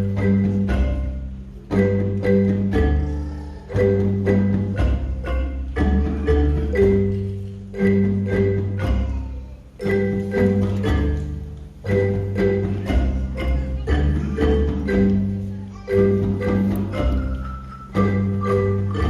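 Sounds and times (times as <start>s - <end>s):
xylophone ensemble playing: 0.0s - 19.0s.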